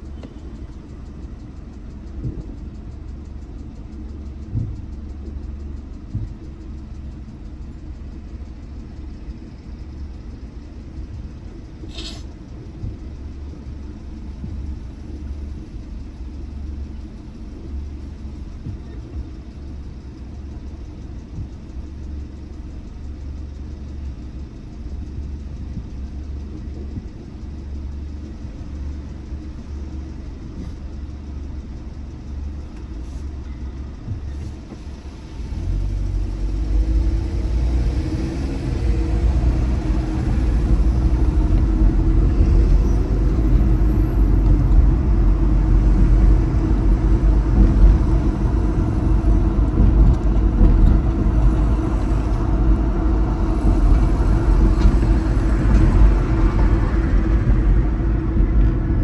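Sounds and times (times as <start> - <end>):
car interior rumble: 0.0 - 59.0.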